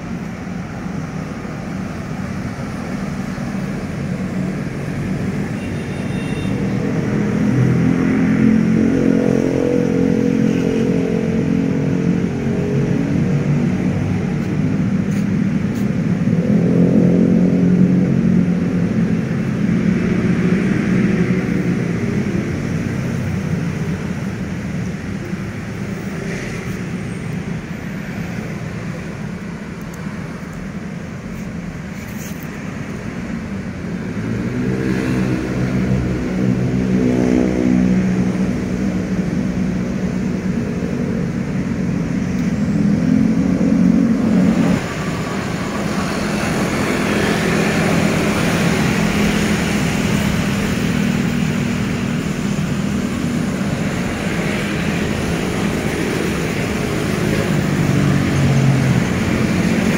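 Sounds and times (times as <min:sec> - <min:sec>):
traffic engine drone: 0:00.0 - 0:59.9.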